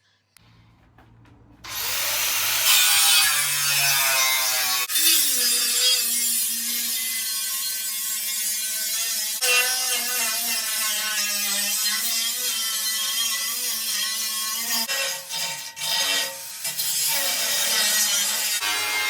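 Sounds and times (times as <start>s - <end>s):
angle grinder cutting steel: 1.7s - 19.0s.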